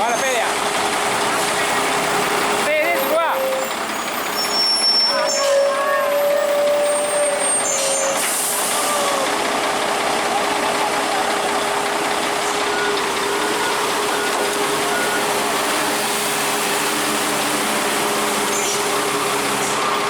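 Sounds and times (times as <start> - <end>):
heavy truck engine running: 0.0 - 20.0
road noise: 0.0 - 20.0.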